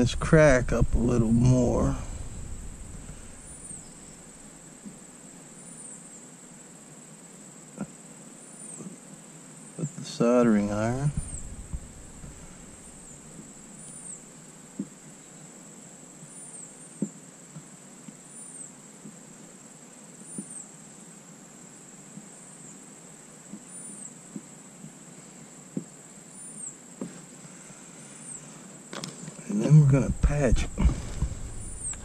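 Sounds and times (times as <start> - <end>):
insect chirps: 0.0 - 32.0.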